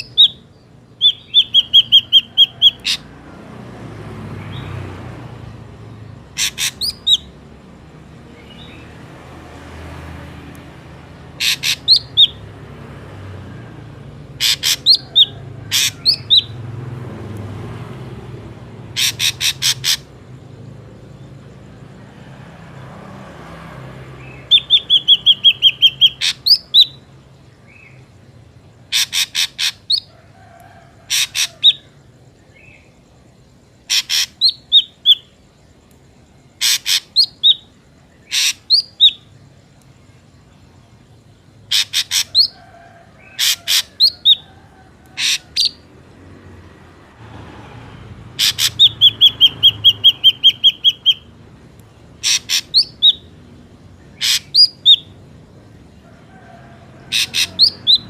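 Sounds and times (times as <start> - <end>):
drongo calls: 0.0 - 58.0.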